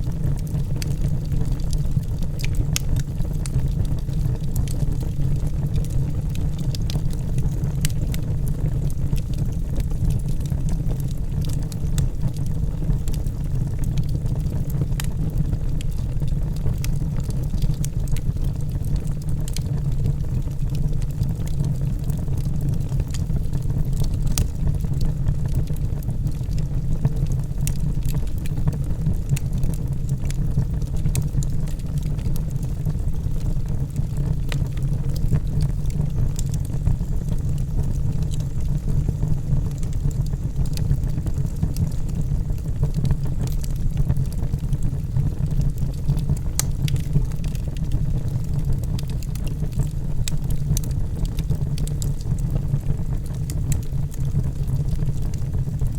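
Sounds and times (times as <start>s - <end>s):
fire flames rumbling: 0.0s - 55.9s
wood crackling and popping: 0.0s - 55.9s.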